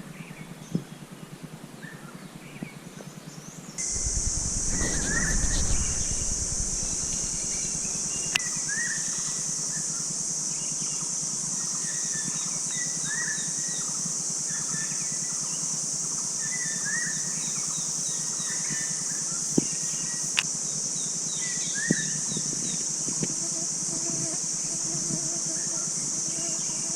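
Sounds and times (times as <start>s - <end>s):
insect drone: 3.8s - 26.9s.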